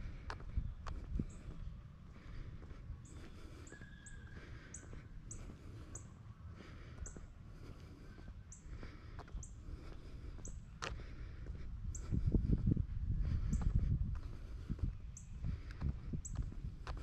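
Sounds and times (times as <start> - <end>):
wind rumble on microphone: 0.0 - 5.8, 7.6 - 17.0
footsteps crunching on trail: 0.0 - 17.0.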